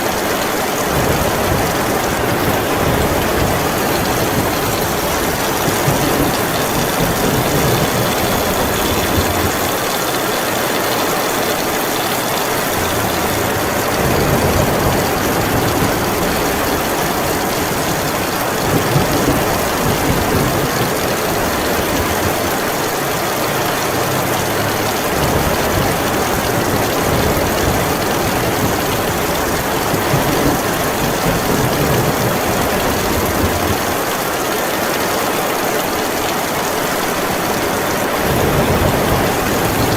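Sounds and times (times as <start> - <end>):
thunder rumbling: 0.0 - 34.3, 37.0 - 39.9
heavy rain: 0.0 - 39.9.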